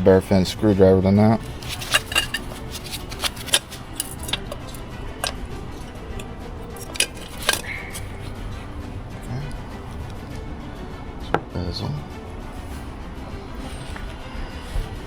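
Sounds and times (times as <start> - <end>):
hand tools clinking: 0.3 - 15.0.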